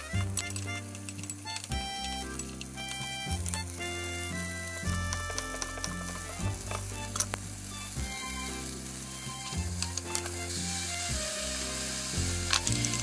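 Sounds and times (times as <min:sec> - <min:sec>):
background music: 0:00.0 - 0:13.0
food sizzling in a frying pan: 0:00.0 - 0:13.0.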